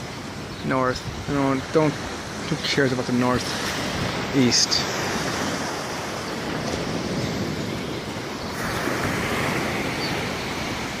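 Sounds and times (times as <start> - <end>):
wind on microphone: 0.0 - 2.5, 3.2 - 11.0
waves breaking on beach: 0.0 - 11.0.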